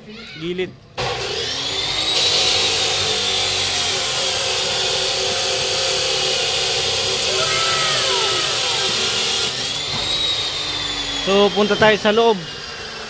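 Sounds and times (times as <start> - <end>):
angle grinder on steel: 1.0 - 13.0.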